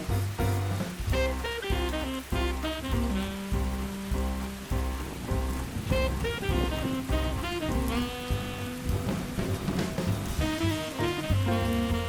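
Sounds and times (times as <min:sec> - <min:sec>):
gentle piano music: 0:00.0 - 0:12.0
rain falling: 0:00.0 - 0:12.0.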